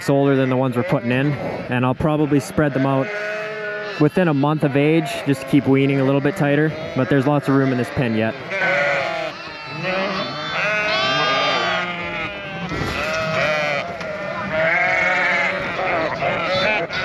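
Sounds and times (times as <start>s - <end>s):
ewes bleating: 0.0s - 17.0s
lambs bleating: 0.0s - 17.0s.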